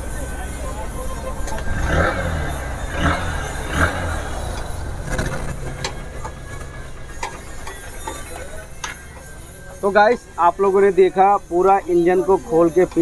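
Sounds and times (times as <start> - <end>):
motorcycle engine kick-started idling: 0.0 - 13.0
engine knocks: 0.8 - 11.5.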